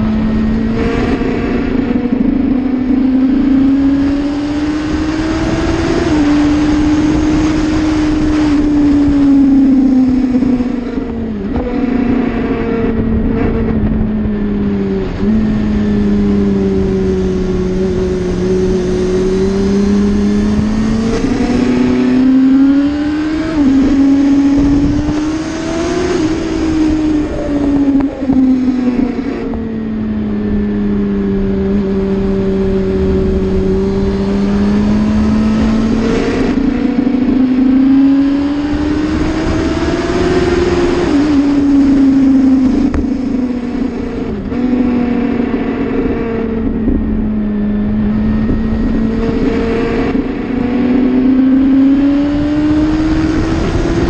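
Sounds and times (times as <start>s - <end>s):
motorcycle engine accelerating: 0.0s - 54.0s
wind buffeting microphone: 0.0s - 54.0s.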